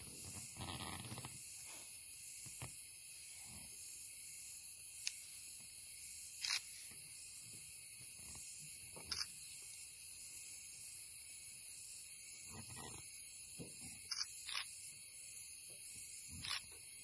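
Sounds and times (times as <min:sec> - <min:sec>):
high-pitched night hiss: 0:00.0 - 0:17.0.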